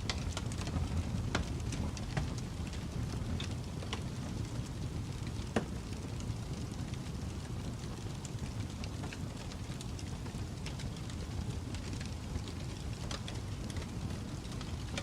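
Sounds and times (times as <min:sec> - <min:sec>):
fire crackling and popping: 0:00.0 - 0:15.0
fire rumbling in fireplace: 0:00.0 - 0:15.0.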